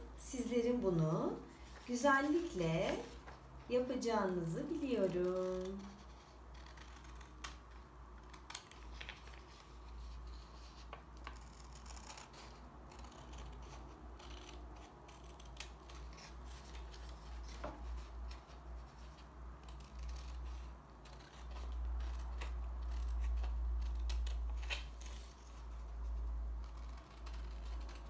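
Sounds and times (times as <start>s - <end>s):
scissors snipping paper: 4.4s - 28.0s.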